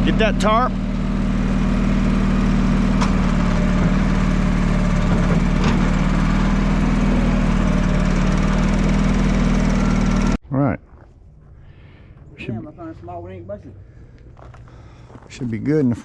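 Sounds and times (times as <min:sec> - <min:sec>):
engine running steadily: 0:00.0 - 0:10.4, 0:11.1 - 0:15.5.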